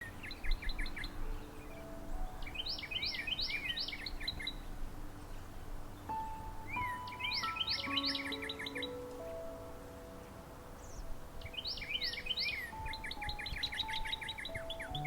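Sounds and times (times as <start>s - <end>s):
low background hiss: 0.0s - 15.0s
songbirds singing: 0.0s - 15.0s.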